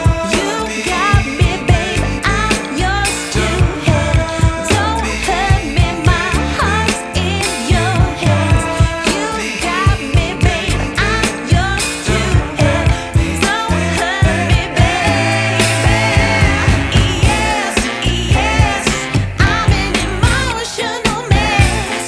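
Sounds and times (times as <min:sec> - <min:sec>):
pop song with singing: 0:00.0 - 0:22.0.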